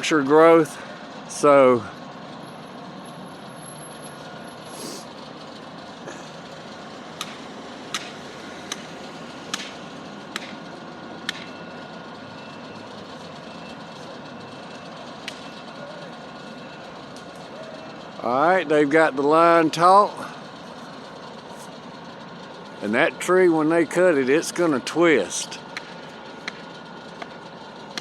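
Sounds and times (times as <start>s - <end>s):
street traffic rumble: 0.0s - 28.0s
trucks idling: 0.0s - 28.0s.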